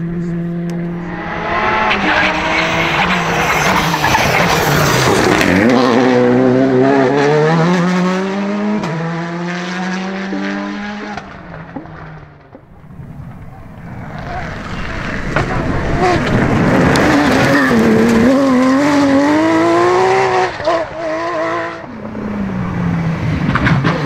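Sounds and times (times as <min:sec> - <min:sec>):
rally car engine passing: 0:00.0 - 0:24.0.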